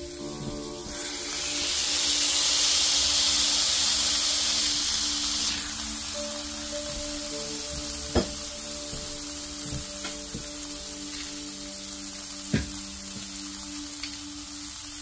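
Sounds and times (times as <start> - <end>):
burger patties sizzling: 0.0 - 15.0.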